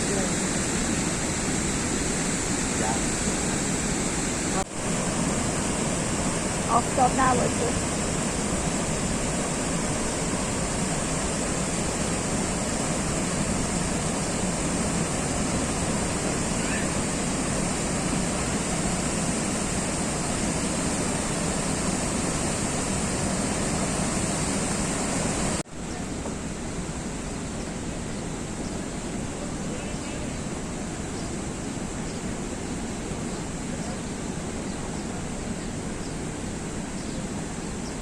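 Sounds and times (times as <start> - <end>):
falling water roaring: 0.0 - 37.8.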